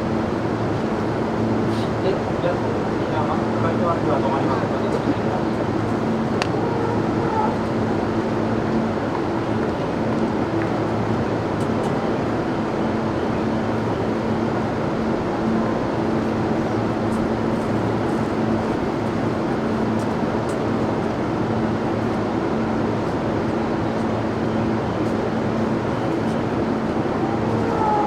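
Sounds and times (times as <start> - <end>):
constant low hum: 0.0 - 28.0.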